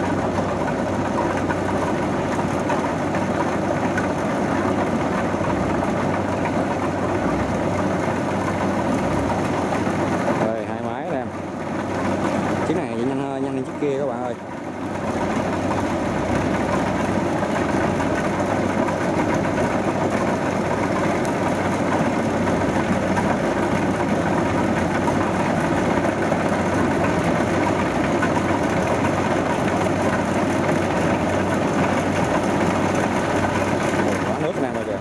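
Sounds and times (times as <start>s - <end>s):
combine harvester engine drone: 0.0s - 35.0s.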